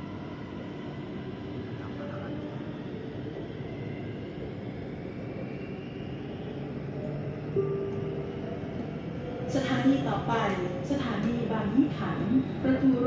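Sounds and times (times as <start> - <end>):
faint motor whine rising: 0.0 - 13.0
train running rumble and wheel noise: 0.0 - 13.0.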